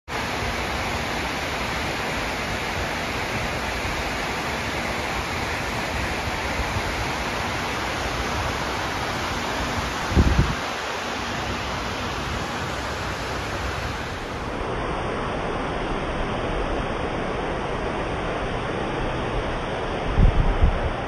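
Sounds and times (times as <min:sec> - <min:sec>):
water cascading down stone walls: 0:00.1 - 0:21.0.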